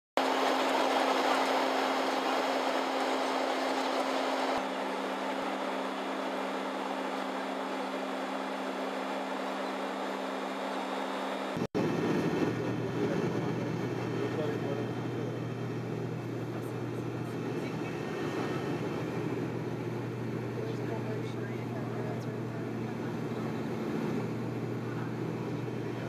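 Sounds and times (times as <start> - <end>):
airliner cabin drone: 0.2 - 26.0.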